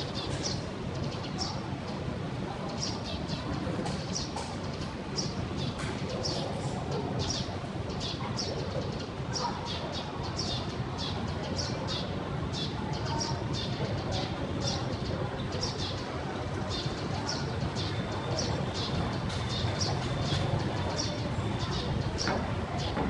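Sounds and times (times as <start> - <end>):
birds chirping: 0.0 - 23.0
low street rumble: 0.0 - 23.0.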